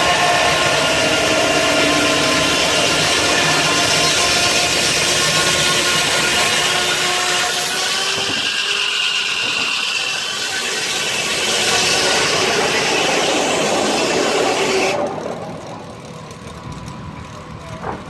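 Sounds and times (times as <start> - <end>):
circular saw cutting log: 0.0 - 16.6.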